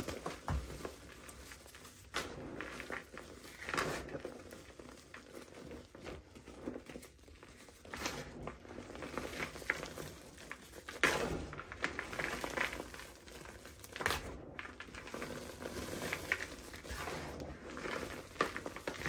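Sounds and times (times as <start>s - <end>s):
hands crushing cement clumps: 0.0s - 19.0s.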